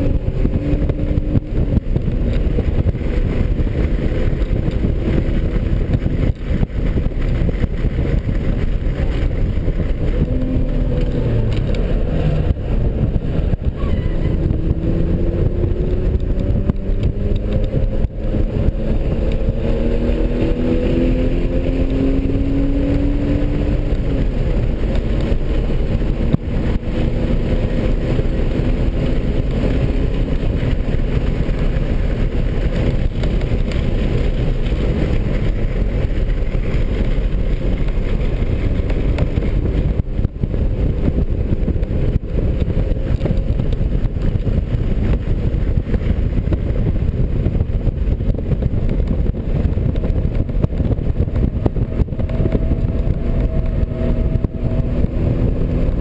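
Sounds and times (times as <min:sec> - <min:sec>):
car engine under load: 0:00.0 - 0:56.0
road and wind noise: 0:00.0 - 0:56.0.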